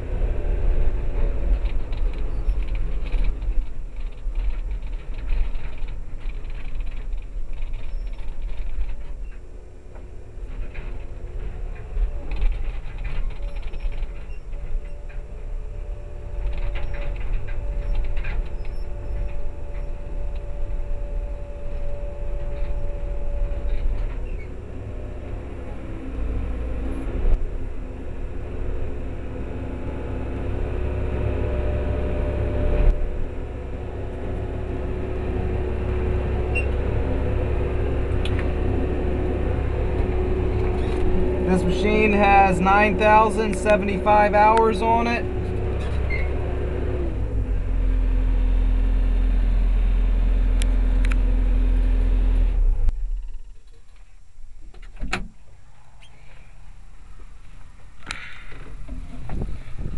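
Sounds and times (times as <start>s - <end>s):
excavator diesel engine rumble: 0.0s - 59.9s
hydraulics hum: 0.0s - 59.9s.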